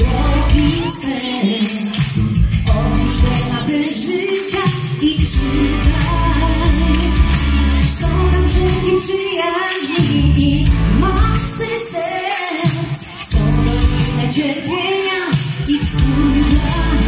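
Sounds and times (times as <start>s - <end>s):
backing music with bass line: 0.0s - 17.0s
woman singing into microphone: 0.0s - 17.0s.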